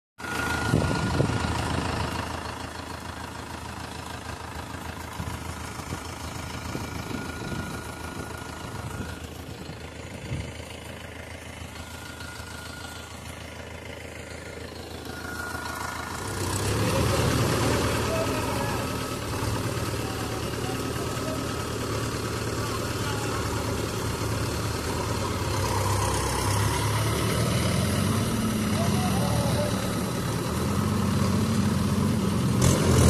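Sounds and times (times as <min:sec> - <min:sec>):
diesel tractor engine idling: 0:00.2 - 0:33.0.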